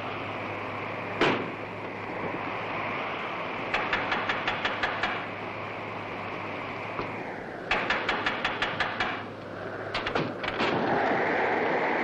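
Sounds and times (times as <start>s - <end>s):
wind blowing: 0.0s - 12.0s.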